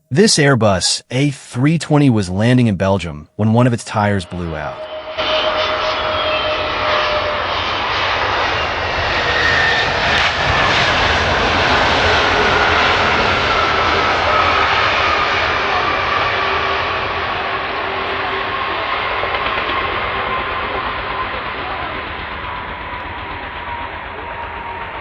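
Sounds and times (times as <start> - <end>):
jet engines whining: 3.4 - 25.0.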